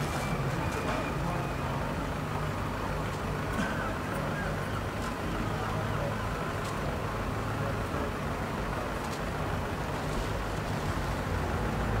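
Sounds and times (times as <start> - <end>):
low rumble of street traffic: 0.0 - 12.0.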